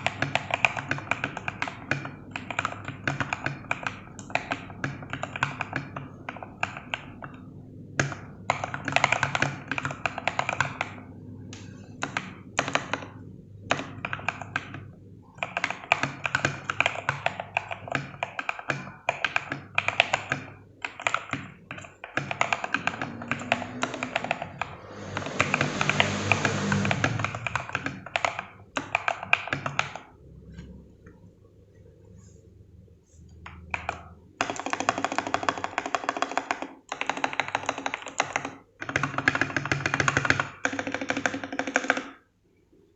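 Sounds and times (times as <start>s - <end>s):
typing on mechanical keyboard: 0.0s - 30.2s, 33.4s - 42.2s.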